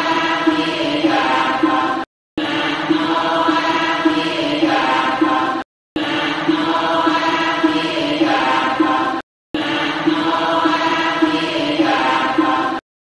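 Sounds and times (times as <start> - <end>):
chanting: 0.0 - 12.8.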